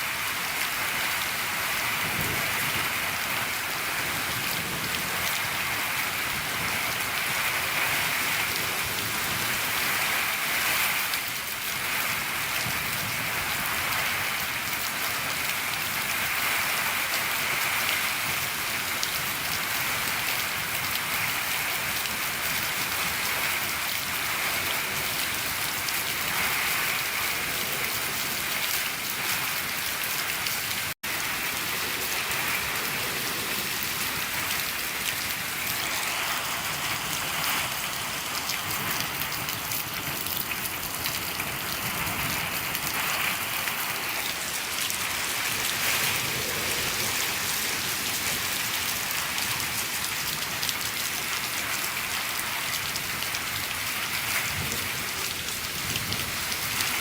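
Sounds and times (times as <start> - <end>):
rain on a shed roof: 0.0 - 57.0.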